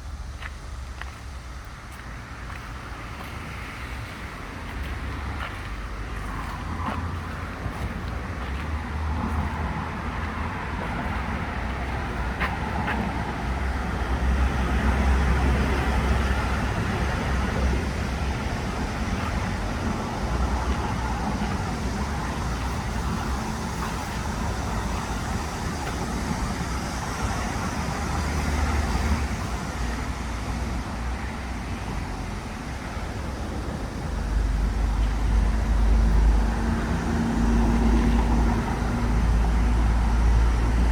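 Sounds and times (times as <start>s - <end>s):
road traffic hum: 0.0s - 40.9s.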